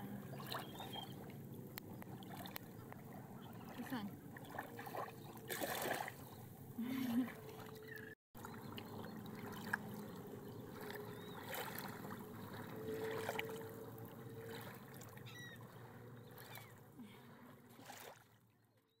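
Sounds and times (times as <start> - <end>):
water washing noise: 0.0 - 18.2.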